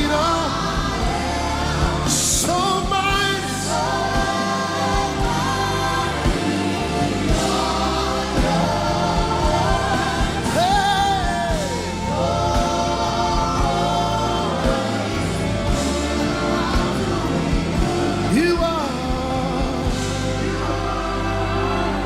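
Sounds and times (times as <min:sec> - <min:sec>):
choir singing held notes: 0:00.0 - 0:22.0.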